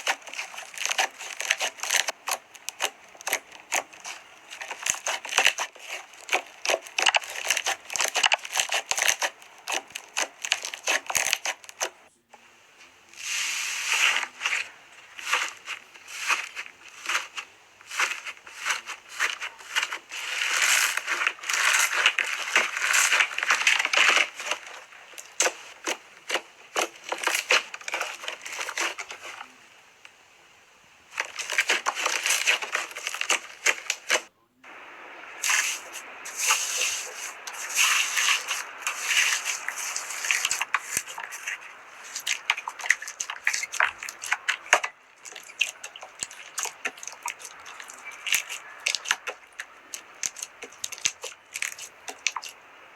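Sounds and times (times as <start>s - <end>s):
slime crackling and popping: 0.0s - 12.0s, 15.2s - 29.4s, 31.1s - 34.3s, 35.4s - 52.6s.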